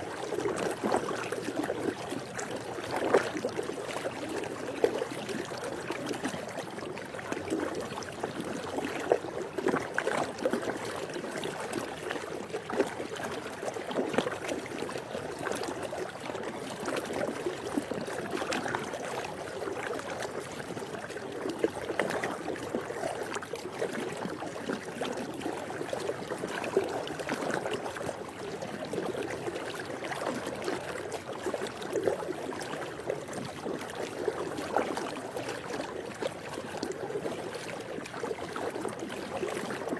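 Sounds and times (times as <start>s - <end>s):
pool water lapping and splashing: 0.0s - 39.9s.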